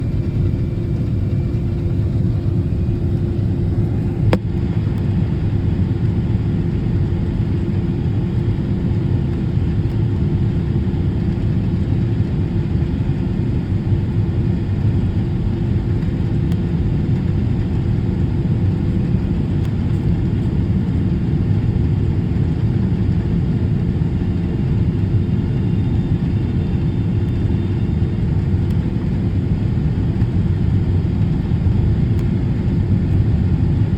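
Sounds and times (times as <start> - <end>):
airliner engines rumbling: 0.0 - 33.9
steady hum: 0.0 - 33.9.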